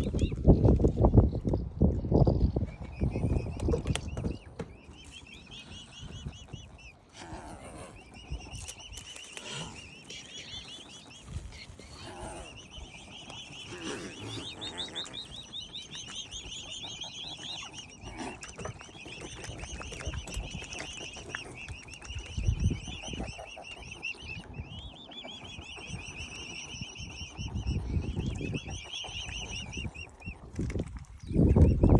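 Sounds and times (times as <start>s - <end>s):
cygnets peeping: 0.0s - 31.9s.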